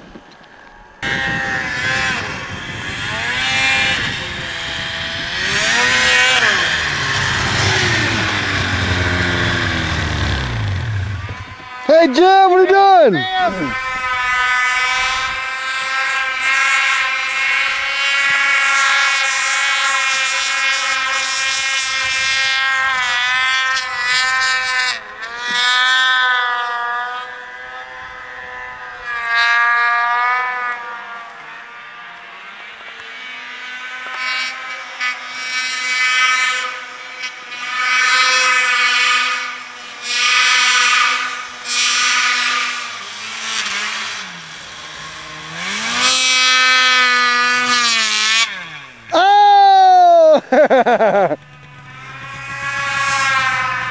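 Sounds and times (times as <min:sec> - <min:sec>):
snowmobile engines revving: 0:00.0 - 0:53.9.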